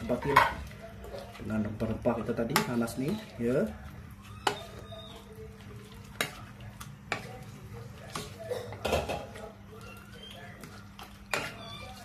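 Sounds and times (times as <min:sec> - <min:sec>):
spatula scraping cooking pot: 0:00.0 - 0:12.0.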